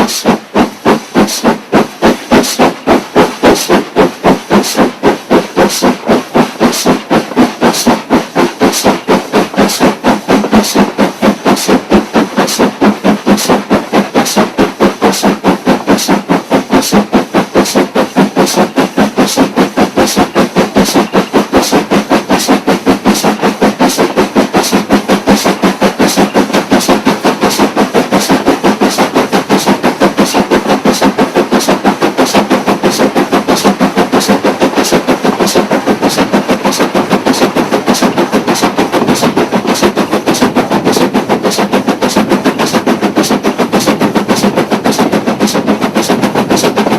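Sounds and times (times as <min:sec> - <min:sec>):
steam locomotive exhaust beats: 0:00.0 - 0:46.9.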